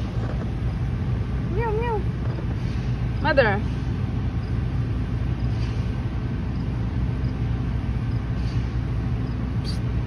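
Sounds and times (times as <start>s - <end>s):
motor running rumble: 0.0s - 10.0s.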